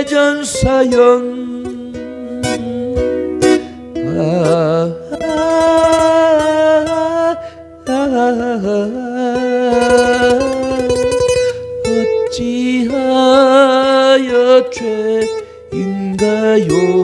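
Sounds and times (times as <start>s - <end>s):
person singing with vibrato: 0.0s - 17.0s
tremolo-picked acoustic guitar: 0.0s - 17.0s.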